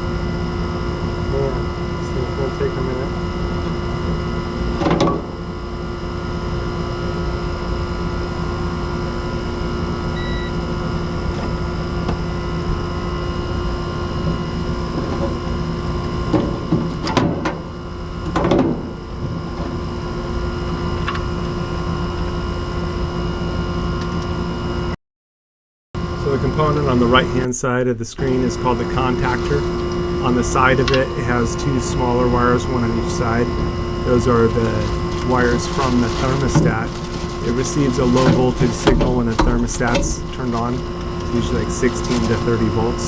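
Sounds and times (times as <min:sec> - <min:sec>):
air conditioner unit humming: 0:00.0 - 0:24.5, 0:26.0 - 0:43.0.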